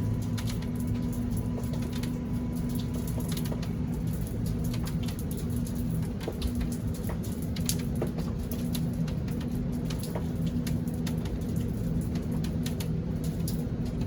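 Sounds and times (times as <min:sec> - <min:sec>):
raindrops dripping: 0:00.0 - 0:14.0
steady low hum: 0:00.0 - 0:14.0.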